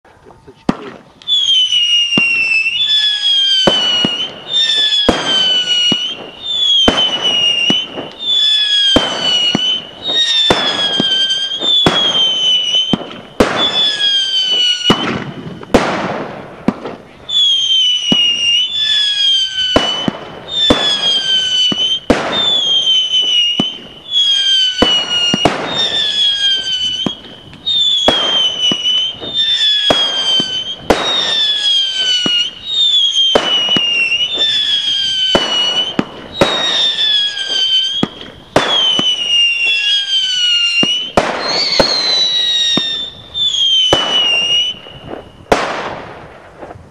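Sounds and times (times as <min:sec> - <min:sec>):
hissing and crackling: 0:00.0 - 0:46.9
firework bangs: 0:00.4 - 0:46.9
firework screaming whistles: 0:00.6 - 0:16.3, 0:16.9 - 0:46.1.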